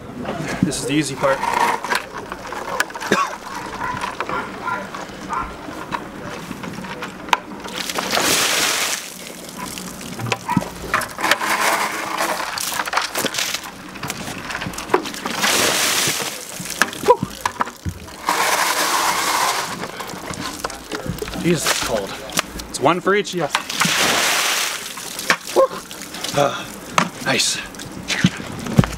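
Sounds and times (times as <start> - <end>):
ice water splashing: 0.8 - 22.8, 23.4 - 28.9.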